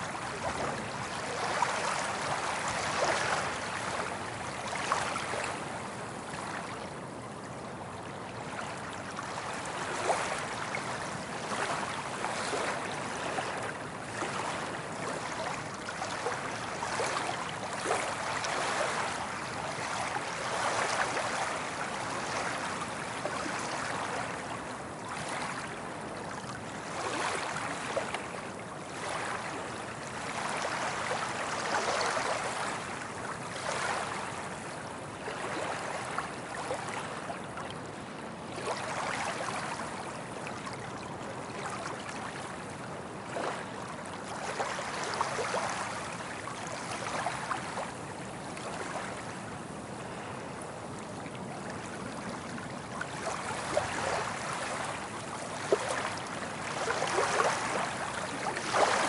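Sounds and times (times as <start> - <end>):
ocean waves washing on beach: 0.0 - 59.0.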